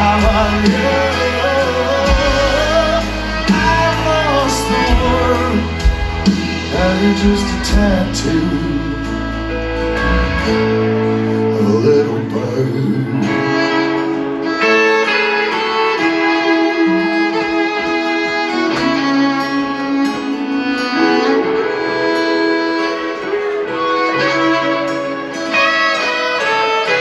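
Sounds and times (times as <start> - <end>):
country-rock band backing: 0.0 - 27.0
fiddle melody: 0.0 - 27.0
strummed guitar: 0.0 - 27.0.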